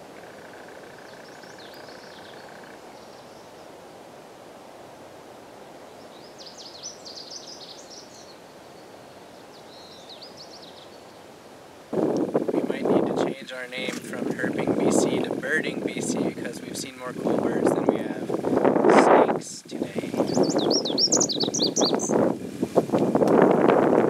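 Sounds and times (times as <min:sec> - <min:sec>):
birds chirping: 0:00.0 - 0:03.8, 0:05.8 - 0:22.3
low hiss: 0:00.0 - 0:24.0.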